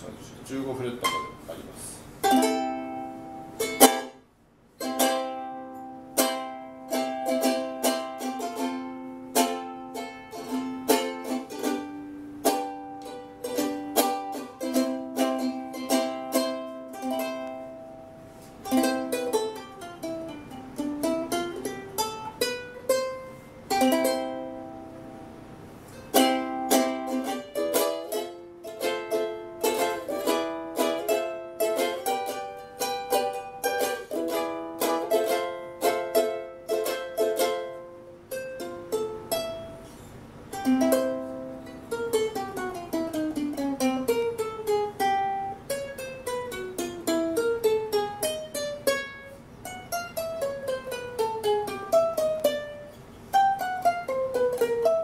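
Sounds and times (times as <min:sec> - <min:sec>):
ukulele strummed and picked: 0:00.9 - 0:01.6, 0:02.2 - 0:55.0.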